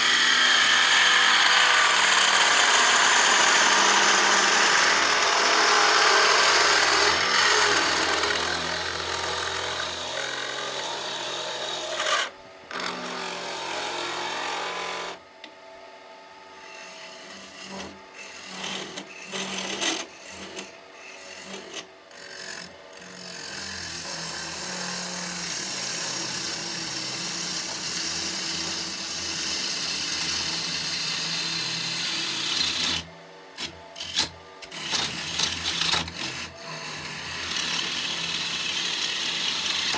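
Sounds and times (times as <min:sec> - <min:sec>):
gouge cutting wood: 0:00.0 - 0:15.2, 0:16.7 - 0:39.9
wood lathe humming: 0:00.0 - 0:15.2, 0:16.6 - 0:39.9.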